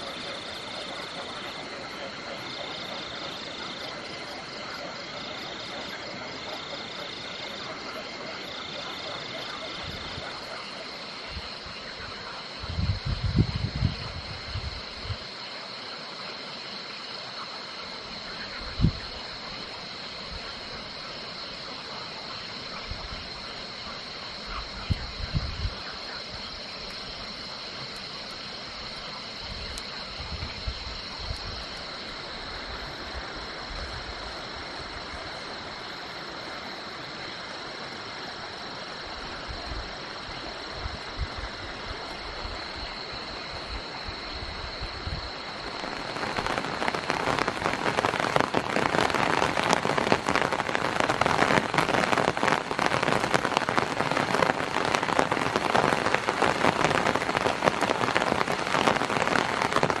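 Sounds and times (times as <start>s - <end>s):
heavy rain hitting a tarp: 0.0s - 39.1s, 44.4s - 60.0s
crickets trilling: 0.0s - 60.0s.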